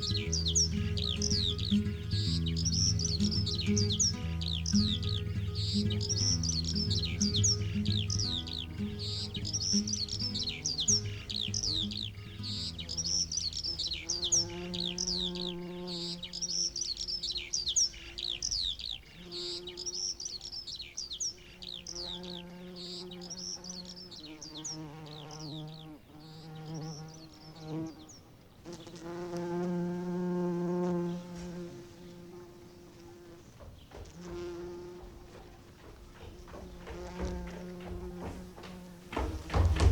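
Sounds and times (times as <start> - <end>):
housefly buzzing: 0.0 - 18.4, 19.1 - 20.2, 21.4 - 39.9
birdsong chirping sweeps: 0.0 - 39.9.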